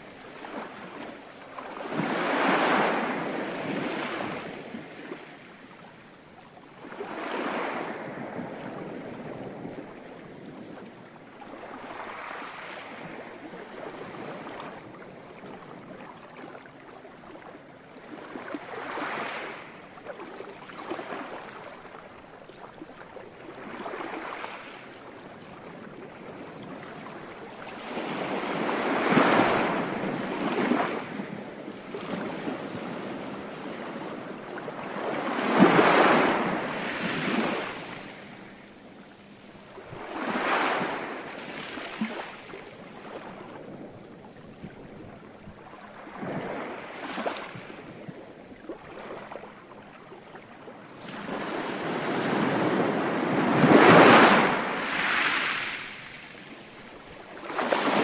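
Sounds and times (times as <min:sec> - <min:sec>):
sea waves breaking on a beach: 0:00.0 - 0:58.0.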